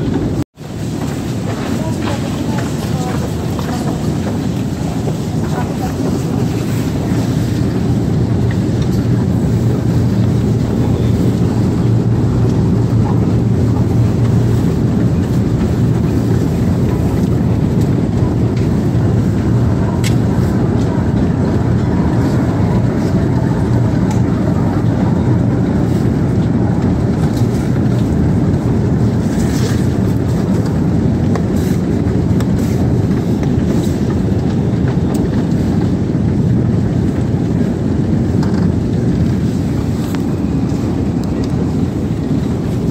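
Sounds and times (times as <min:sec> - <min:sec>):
escalator humming and rumbling: 0:00.0 - 0:42.9.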